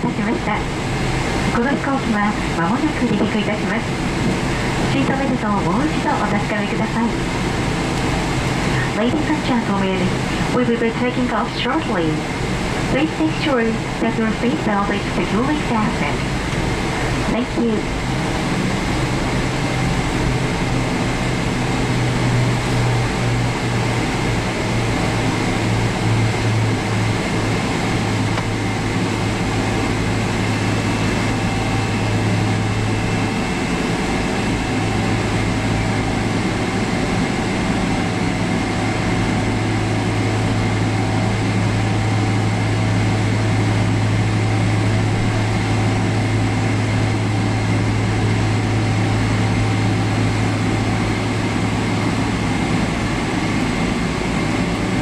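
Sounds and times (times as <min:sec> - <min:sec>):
jet engine and airflow rumble: 0:00.0 - 0:55.0
low hum: 0:00.0 - 0:55.0.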